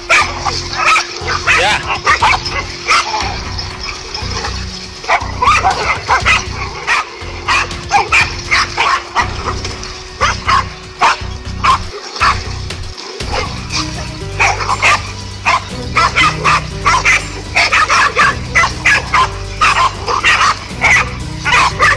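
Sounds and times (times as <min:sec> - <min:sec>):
dogs barking: 0:00.0 - 0:21.9.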